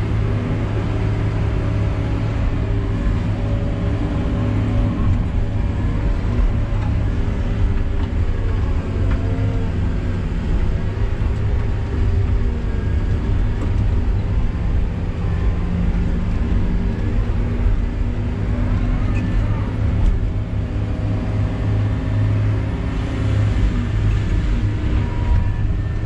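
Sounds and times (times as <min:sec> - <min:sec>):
diesel machinery droning: 0:00.0 - 0:26.0.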